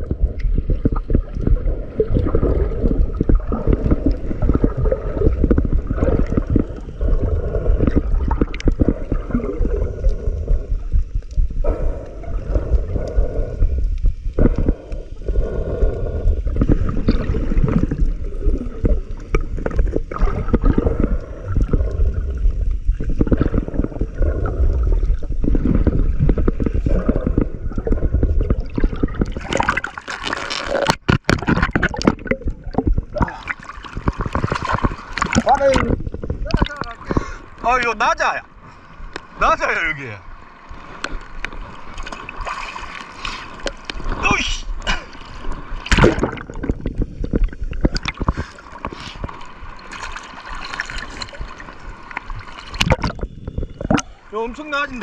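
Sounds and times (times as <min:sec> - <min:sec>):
small splashes and bubble pops: 0:00.0 - 0:07.0, 0:07.8 - 0:13.2, 0:16.5 - 0:37.4, 0:41.0 - 0:54.2
water sloshing and gurgling: 0:00.0 - 0:55.0.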